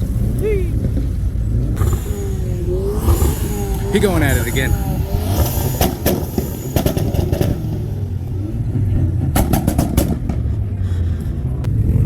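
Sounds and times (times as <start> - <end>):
sharp exhaust pops: 0.0 - 11.5
car engine revving: 0.0 - 12.0.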